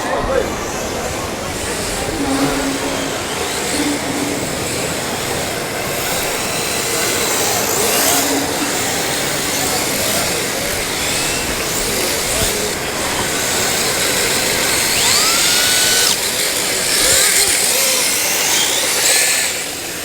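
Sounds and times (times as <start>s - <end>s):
tyres squeaking on floor: 0.0s - 19.5s
loud hall noise: 0.0s - 20.0s
electric motor whine of rc cars: 0.1s - 20.0s.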